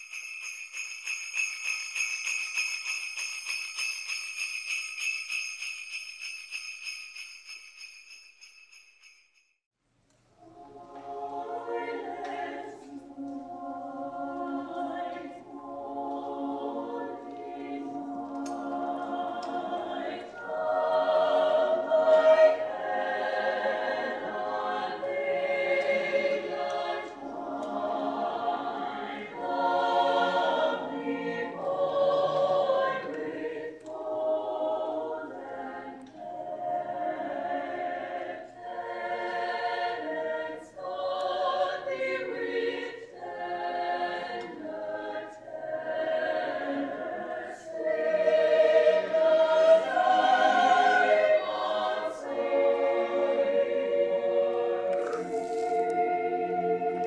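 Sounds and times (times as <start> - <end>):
choir singing: 10.4 - 57.0.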